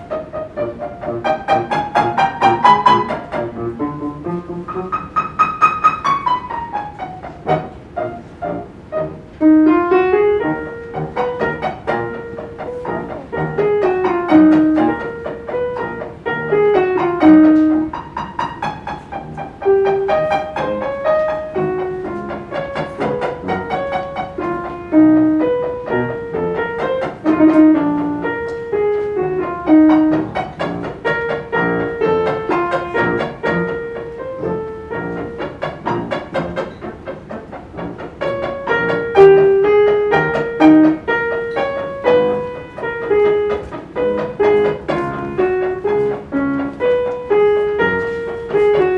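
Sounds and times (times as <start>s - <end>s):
muted piano pizzicato notes: 0.0s - 48.9s
pianos playing slow melody: 0.0s - 48.9s.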